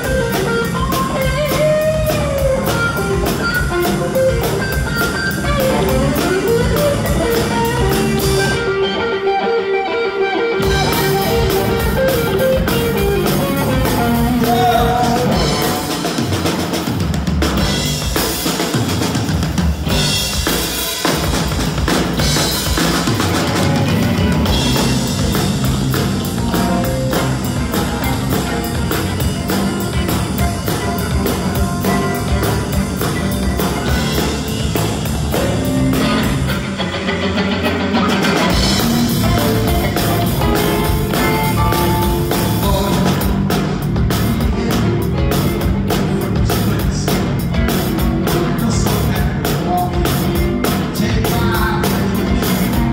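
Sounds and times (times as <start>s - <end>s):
drum kit: 0.0s - 52.9s
electric bass: 0.0s - 52.9s
electric guitar: 0.0s - 52.9s.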